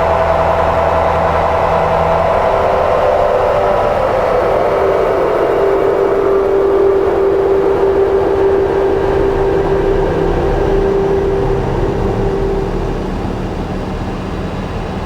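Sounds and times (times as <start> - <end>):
rumbling low drone bed: 0.0 - 15.0
steady synthesizer tone: 0.0 - 15.0.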